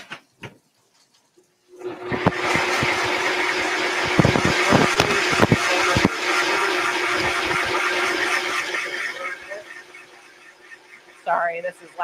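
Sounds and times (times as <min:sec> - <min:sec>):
blender running: 0:01.7 - 0:11.6.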